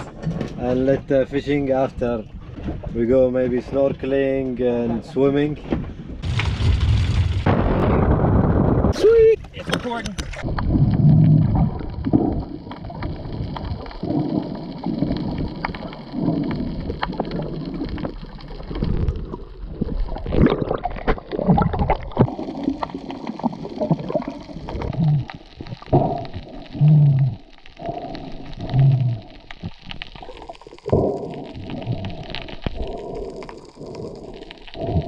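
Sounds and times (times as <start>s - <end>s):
underwater gurgling and sloshing: 0.0s - 35.0s.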